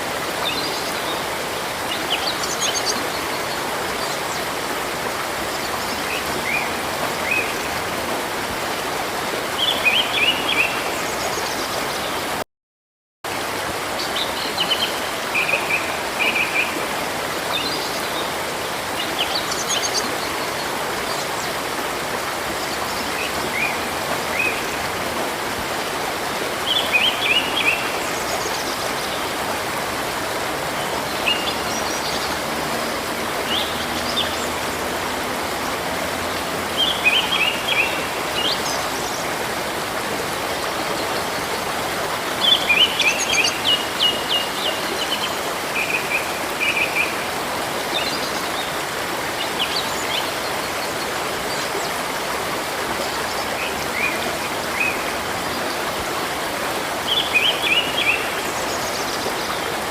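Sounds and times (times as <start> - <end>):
river flowing: 0.0 - 12.4, 13.3 - 59.9.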